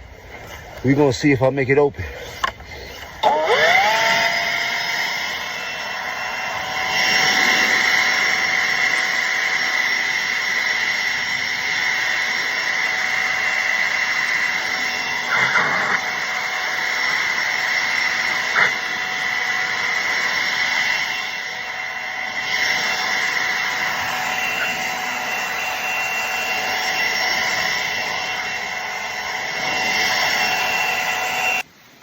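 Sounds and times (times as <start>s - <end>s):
snow blower whining: 0.0s - 32.0s.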